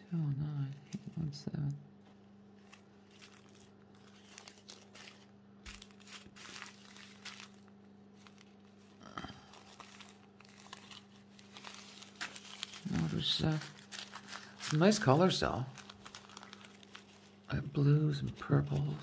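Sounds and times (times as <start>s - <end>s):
plastic bags crinkling: 2.1s - 19.0s.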